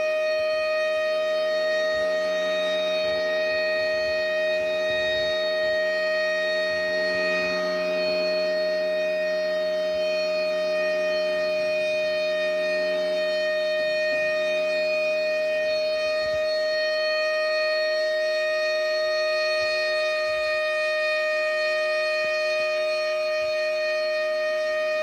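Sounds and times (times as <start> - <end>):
warning siren steady tone: 0.0 - 25.0.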